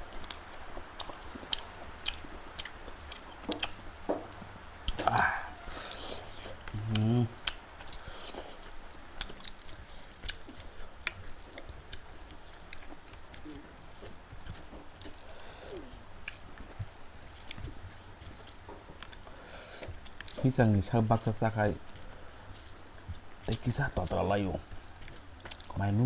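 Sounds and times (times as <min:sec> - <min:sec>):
person chewing: 0:00.1 - 0:26.0.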